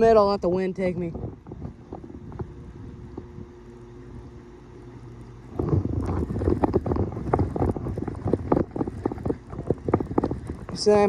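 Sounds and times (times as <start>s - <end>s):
wind buffeting microphone: 0.0s - 4.4s, 5.5s - 11.0s.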